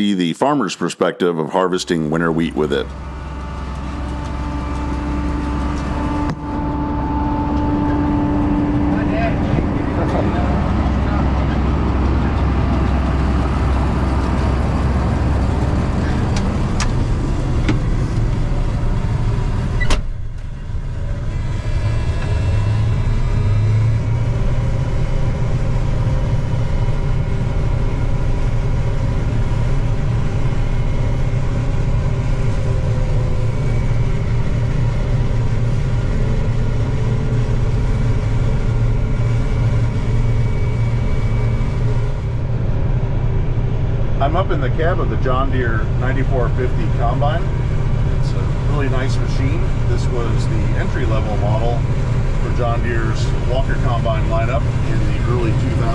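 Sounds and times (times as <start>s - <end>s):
combine harvester engine drone: 1.3s - 55.9s
muffled hum with steady tones: 1.7s - 55.9s.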